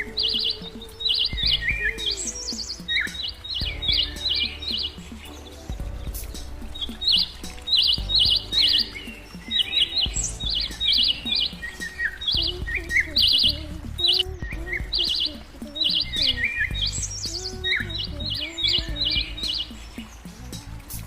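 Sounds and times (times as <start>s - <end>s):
small birds chirping in trills: 0.0s - 21.0s.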